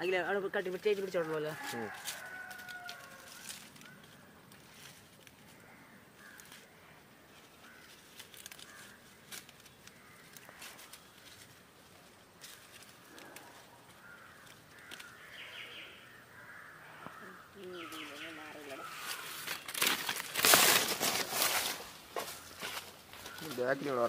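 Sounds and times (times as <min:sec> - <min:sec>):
faint bird calls: 0:02.1 - 0:19.7, 0:21.6 - 0:24.0.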